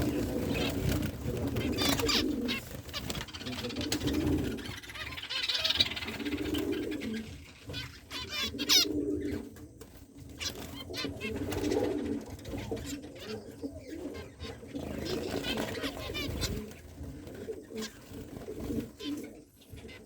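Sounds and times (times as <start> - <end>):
birds chirping and trilling: 0.0 - 20.0
low cooing calls: 0.0 - 20.0.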